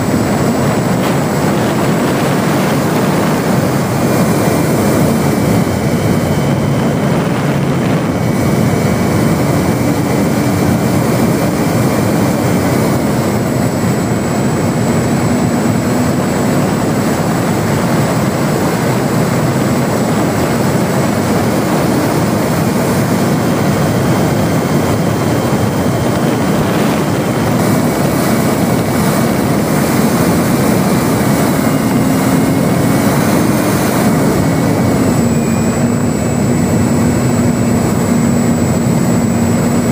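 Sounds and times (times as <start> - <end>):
electric motor and propeller hum: 0.0 - 39.9
wind rushing: 0.0 - 39.9.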